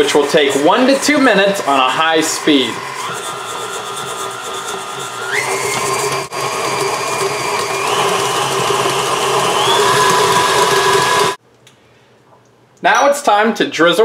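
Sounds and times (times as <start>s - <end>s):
stand mixer motor whining: 0.0s - 11.4s.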